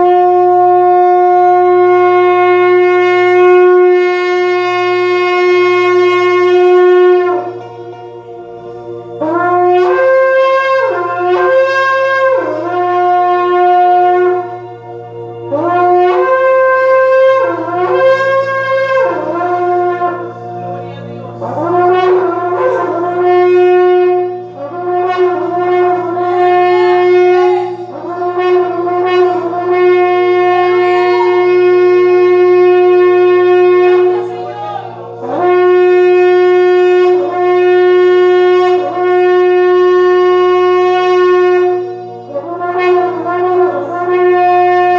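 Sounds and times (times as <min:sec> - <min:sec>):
shofar horn blowing: 0:00.0 - 0:44.9.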